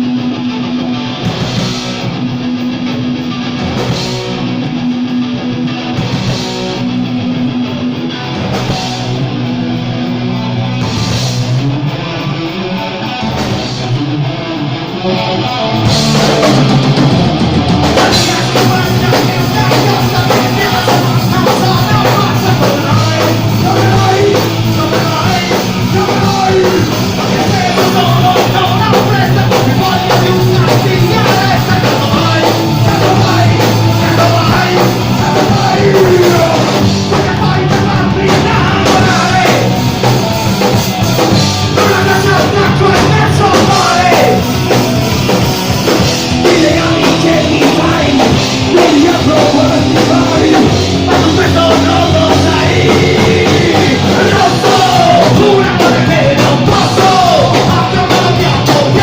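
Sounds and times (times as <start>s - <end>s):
distorted electric guitar: 0.0s - 59.0s
live rock band with drums: 0.0s - 59.0s.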